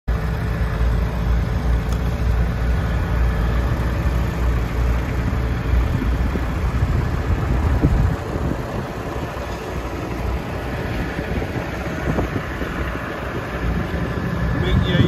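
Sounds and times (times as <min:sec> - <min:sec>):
tractor engine running at low revs: 0:00.1 - 0:15.0.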